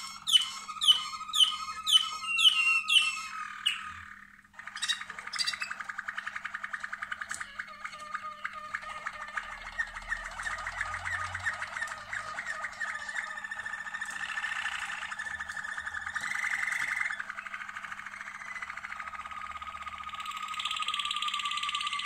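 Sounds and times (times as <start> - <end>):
canary singing with rolling trills: 0.0 - 22.0.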